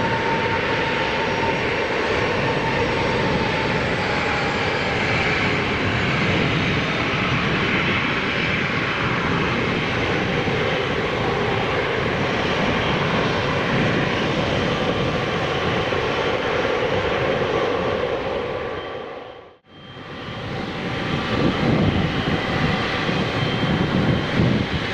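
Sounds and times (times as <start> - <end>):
jet engines running loudly: 0.0 - 24.9.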